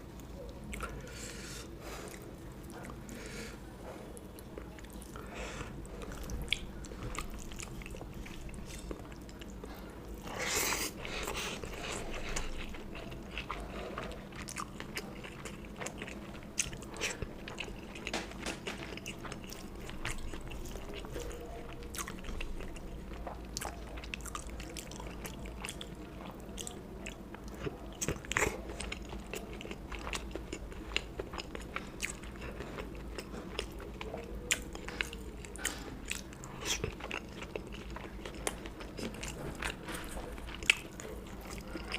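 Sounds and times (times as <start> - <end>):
person chewing and crunching food: 0.4 - 41.9.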